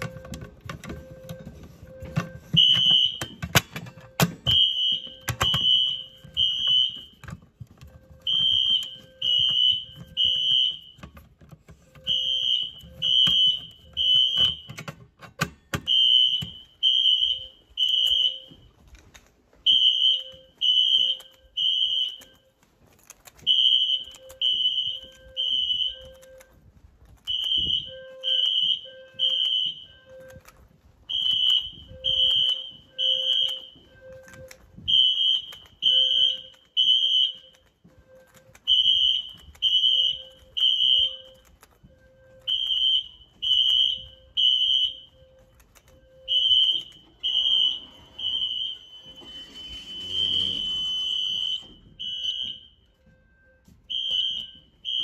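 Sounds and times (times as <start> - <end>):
fire alarm horn beeps: 0.0 - 18.9, 19.6 - 55.0.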